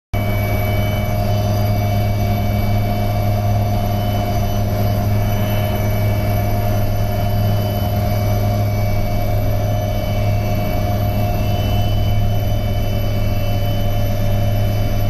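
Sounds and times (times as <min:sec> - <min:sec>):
helicopter engines and rotors: 0:00.2 - 0:15.0.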